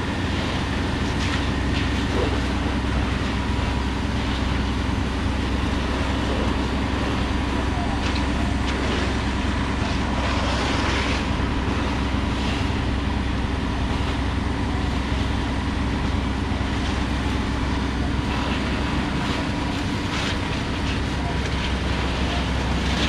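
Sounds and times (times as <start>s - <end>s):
engines droning: 0.0s - 23.0s.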